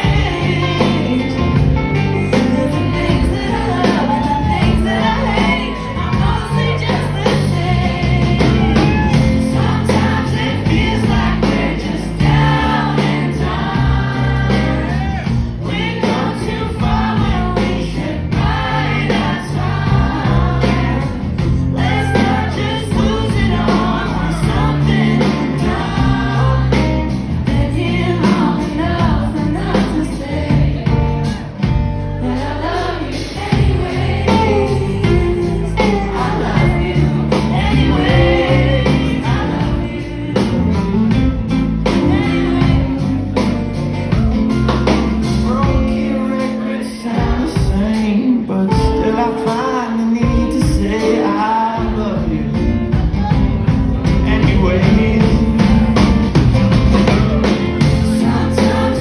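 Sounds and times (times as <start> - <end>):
backing voices: 0.0 - 48.9, 50.5 - 59.0
lead vocals singing: 0.0 - 59.0
live band playing a song: 0.0 - 59.0.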